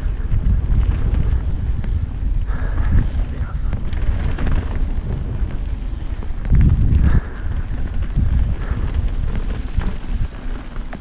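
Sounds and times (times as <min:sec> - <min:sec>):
bike knocking and rattling: 0:00.0 - 0:11.0
bike tyre rumble: 0:00.0 - 0:11.0
wind on microphone: 0:00.0 - 0:11.0.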